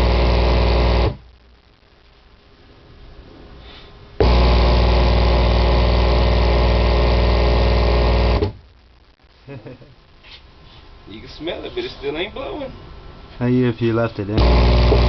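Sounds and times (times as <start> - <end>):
subwoofer buzzing with mains hum: 0.0 - 15.0.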